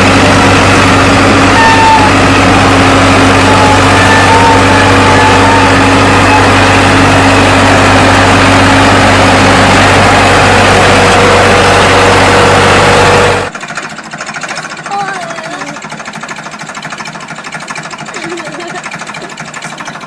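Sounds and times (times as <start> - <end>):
fast even engine ticking: 0.0 - 20.0
tractor diesel engine running: 0.0 - 20.0.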